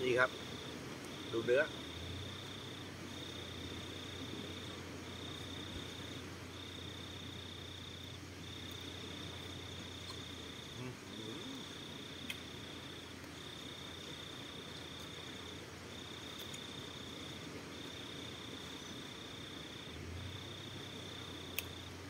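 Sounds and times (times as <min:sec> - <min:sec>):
insect trilling: 0:00.0 - 0:21.9.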